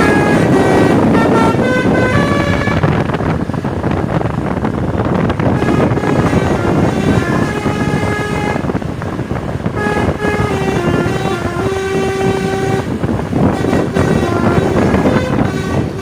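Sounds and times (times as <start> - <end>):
multi-tone bus horn tune: 0.0 - 3.3, 5.4 - 16.0.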